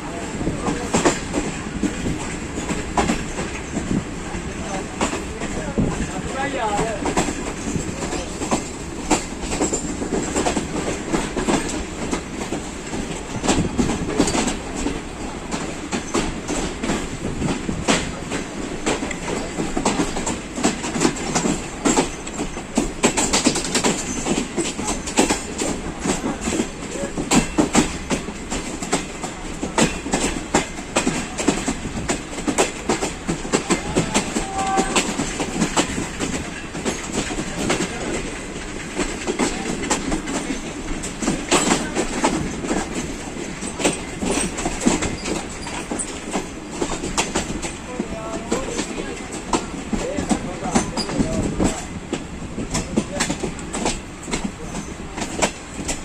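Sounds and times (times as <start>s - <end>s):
train rumble: 0.0s - 56.0s
train wheels clattering over joints: 0.0s - 56.0s.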